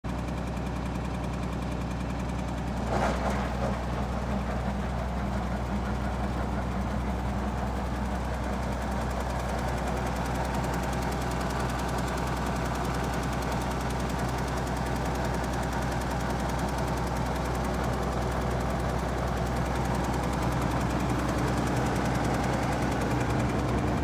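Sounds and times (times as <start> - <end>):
tractor engine running: 0.1 - 24.0.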